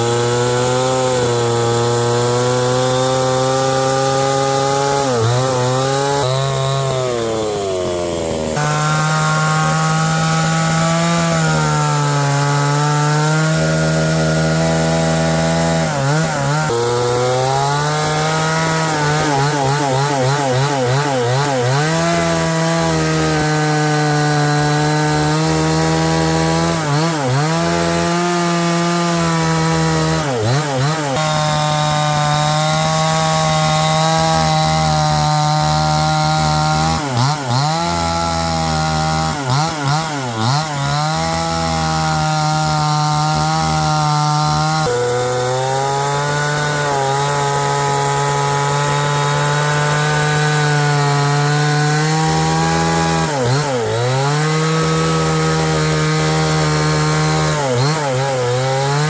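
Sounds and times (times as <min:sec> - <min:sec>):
chainsaw cutting: 0:00.0 - 0:59.0.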